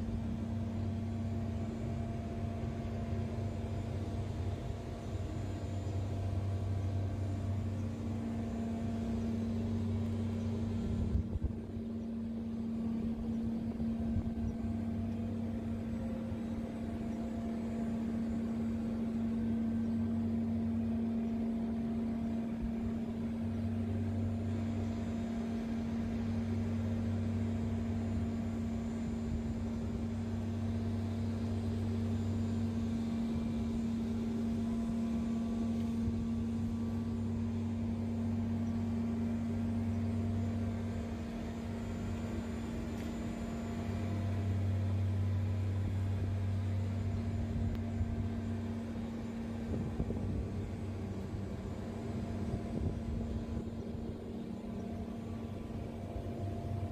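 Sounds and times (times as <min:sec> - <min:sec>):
chiller machine hum: 0:00.0 - 0:56.9
lower hum: 0:00.0 - 0:56.9.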